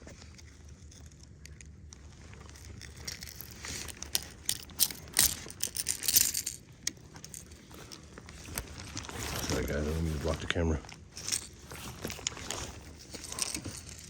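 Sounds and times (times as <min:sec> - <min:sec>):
crinkling rustles: 0:00.0 - 0:14.0.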